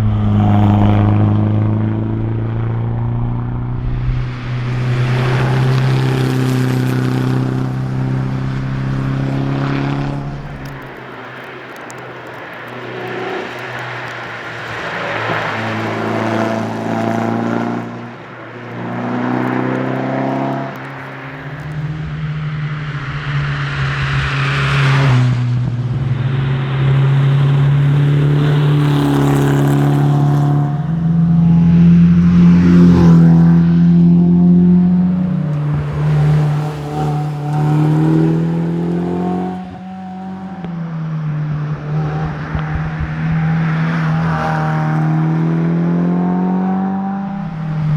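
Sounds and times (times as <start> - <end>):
car engine driven hard: 0.0 - 47.9.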